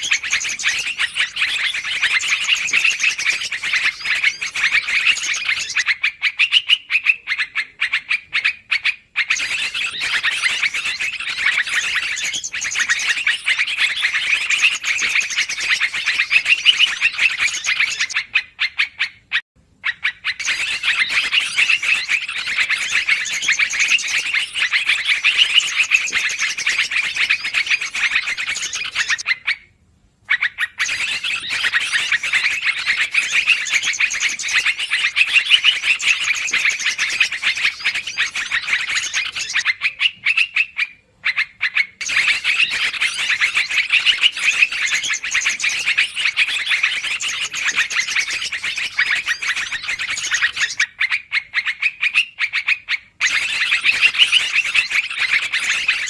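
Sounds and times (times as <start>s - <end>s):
bulbul chattering calls: 0.0s - 29.7s, 30.3s - 56.0s.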